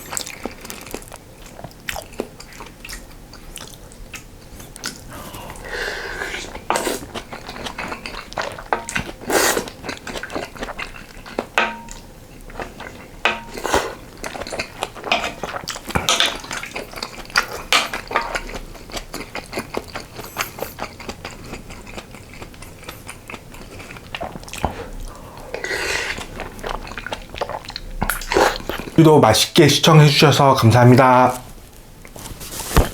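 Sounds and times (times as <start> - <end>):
eating noises: 0.0 - 29.6.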